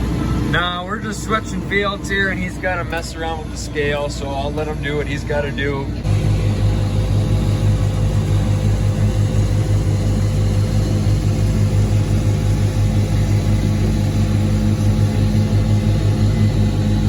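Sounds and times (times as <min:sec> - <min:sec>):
diesel tractor engine droning: 0:00.0 - 0:17.0.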